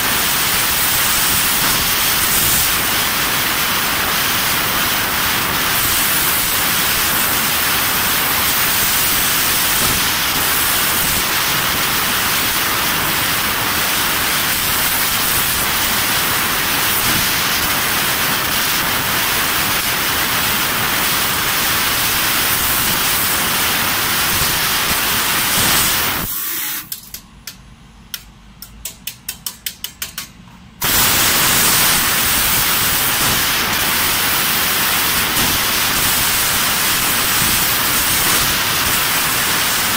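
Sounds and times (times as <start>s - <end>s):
gas jet hissing: 0.0s - 26.9s, 30.8s - 39.9s.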